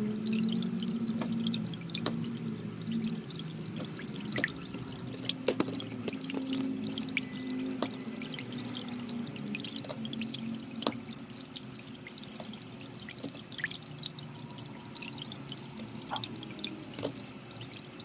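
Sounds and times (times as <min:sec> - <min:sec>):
soft music of low tones: 0:00.0 - 0:18.0.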